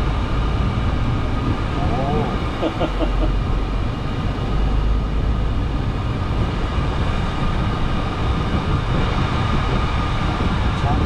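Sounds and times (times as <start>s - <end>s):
road noise: 0.0s - 11.0s
truck diesel engine under load: 0.0s - 11.0s.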